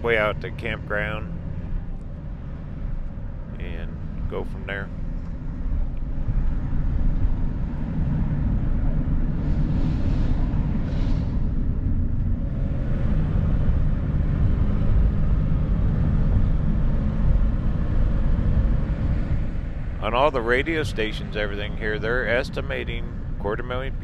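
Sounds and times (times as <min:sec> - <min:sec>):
road and engine rumble: 0:00.0 - 0:24.0.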